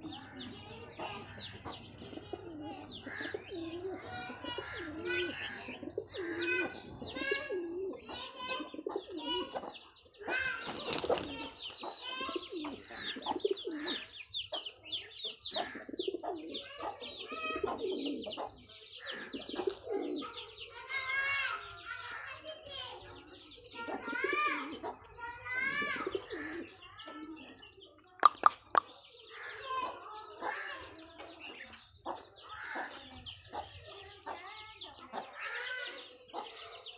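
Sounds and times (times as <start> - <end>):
pigeons cooing: 0.0 - 31.1
small birds chirping: 0.0 - 36.9.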